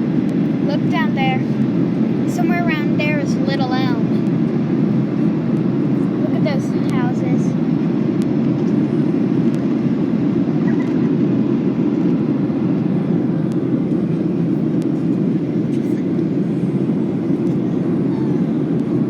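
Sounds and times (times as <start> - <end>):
airplane cabin engine roar: 0.0 - 19.0.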